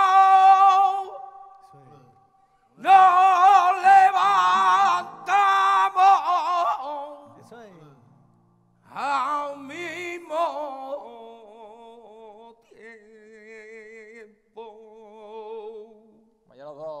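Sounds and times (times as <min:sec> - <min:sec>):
person singing unaccompanied: 0:00.0 - 0:02.1, 0:02.8 - 0:07.5, 0:08.9 - 0:17.0.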